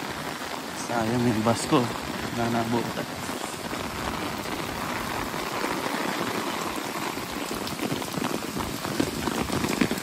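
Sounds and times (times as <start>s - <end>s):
heavy rain on pavement: 0.0s - 10.0s.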